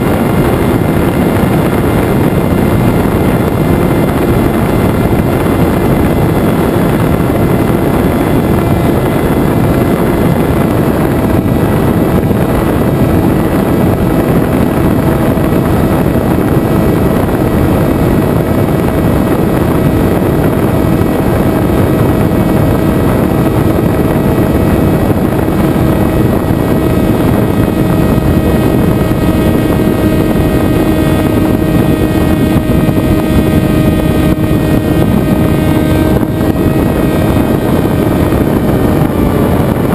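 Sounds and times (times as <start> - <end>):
electric motor propeller buzz: 0.0 - 39.9
rush of air: 0.0 - 39.9.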